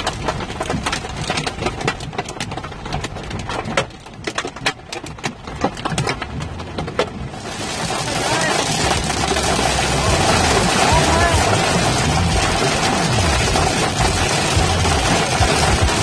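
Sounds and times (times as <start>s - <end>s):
engine and road noise hum: 0.0s - 16.0s
hail pelting vehicle: 0.0s - 16.0s.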